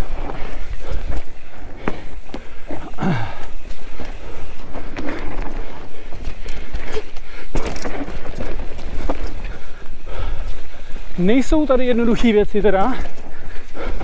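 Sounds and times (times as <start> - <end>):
bike knocking and rattling: 0.0 - 14.0
bike low rumble: 0.0 - 14.0.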